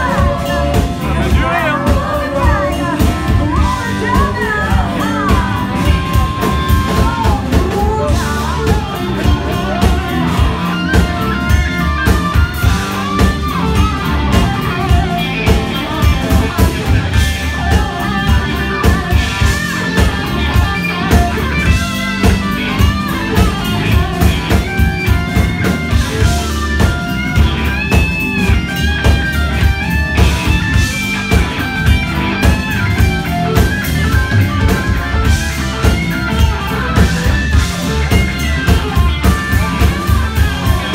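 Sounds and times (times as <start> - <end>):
bass guitar: 0.0 - 40.9
drum kit beat: 0.0 - 40.9
electric guitar solo: 0.0 - 40.9.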